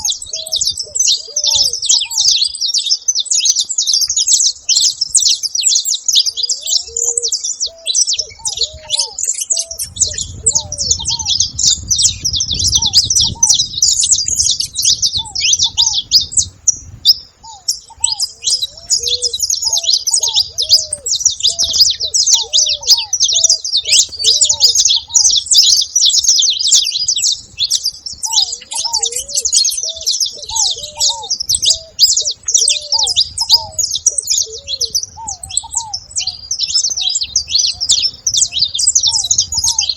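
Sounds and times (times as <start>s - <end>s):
finches chirping and chattering: 0.0s - 39.9s
lower softer bird call: 0.0s - 39.9s.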